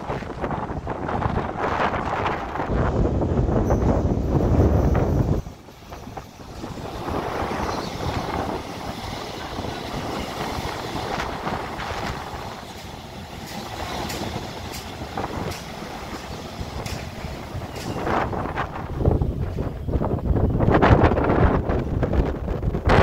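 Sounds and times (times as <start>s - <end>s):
metro train rumble: 0.0s - 23.0s.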